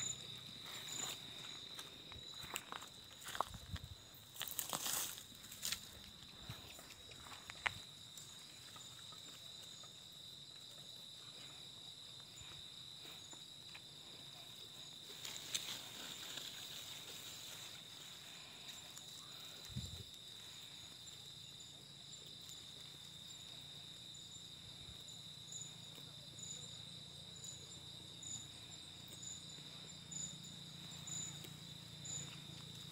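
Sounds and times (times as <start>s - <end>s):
high-pitched insect chorus: 0.0s - 32.9s.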